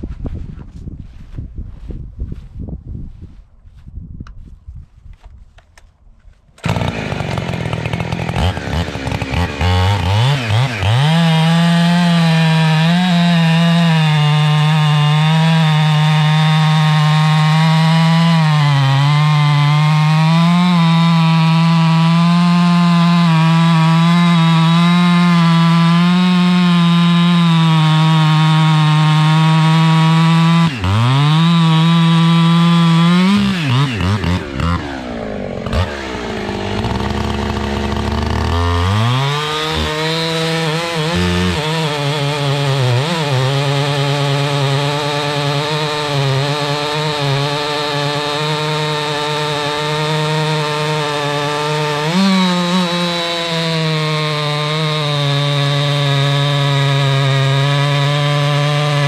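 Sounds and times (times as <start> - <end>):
chainsaw engine running: 6.6 - 59.0.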